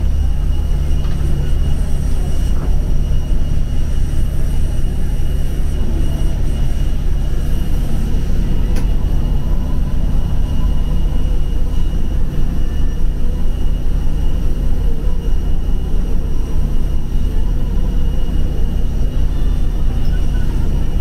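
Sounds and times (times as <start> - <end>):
faint high whine: 0.0 - 21.0
jet engine rumble: 0.0 - 21.0.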